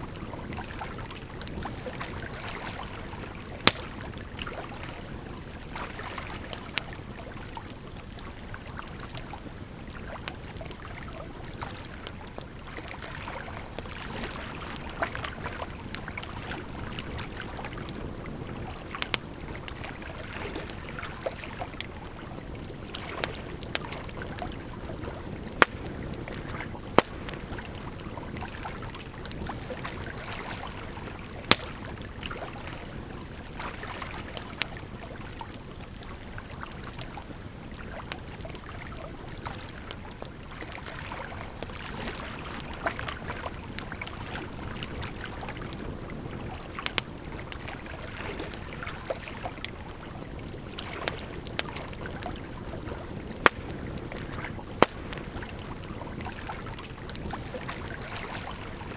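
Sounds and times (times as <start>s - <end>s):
flowing water: 0.0s - 58.9s
firewood crackling and popping: 0.3s - 58.9s.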